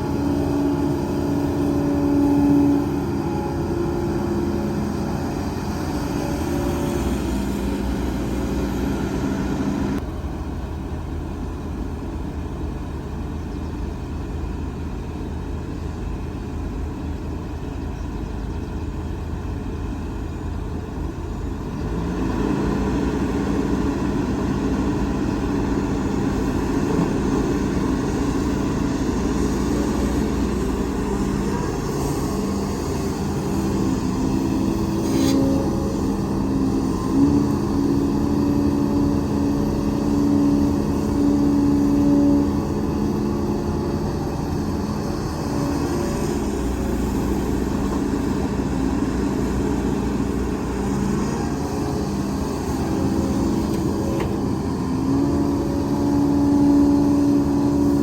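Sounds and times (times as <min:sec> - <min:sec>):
deep hum of held tones: 0:00.0 - 0:58.0
diesel engines of heavy machinery: 0:00.0 - 0:58.0.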